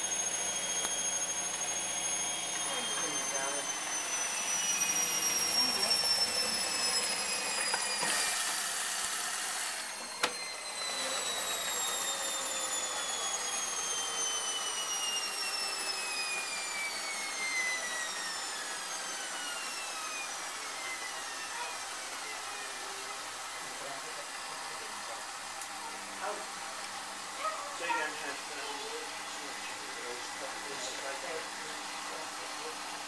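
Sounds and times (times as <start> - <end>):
laundry appliance motor winding down: 0.0 - 33.0.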